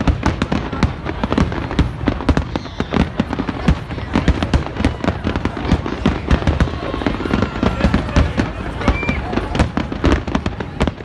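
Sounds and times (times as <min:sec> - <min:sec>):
fireworks banging and crackling: 0:00.0 - 0:11.0.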